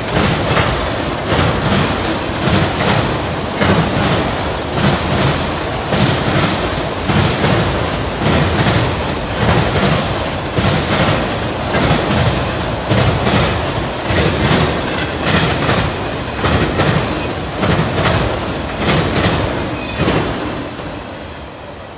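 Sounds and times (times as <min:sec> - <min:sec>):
train wheels clacking over rail joints: 0:00.0 - 0:20.9
freight train rumble: 0:00.0 - 0:21.9.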